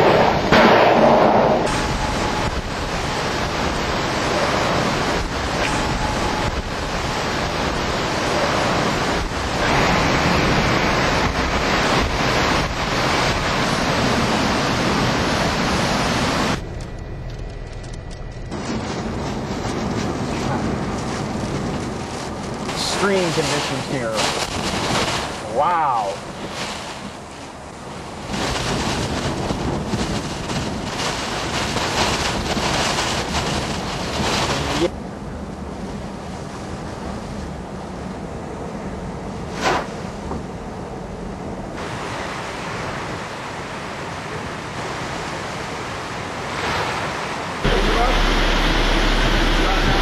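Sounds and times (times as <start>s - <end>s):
strong wind buffeting microphone: 0.0s - 50.0s.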